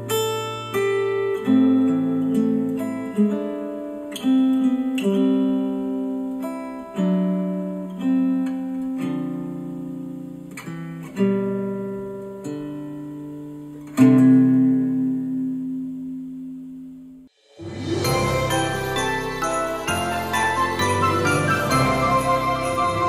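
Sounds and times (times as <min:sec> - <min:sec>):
acoustic guitar music over speakers: 0:00.0 - 0:23.0.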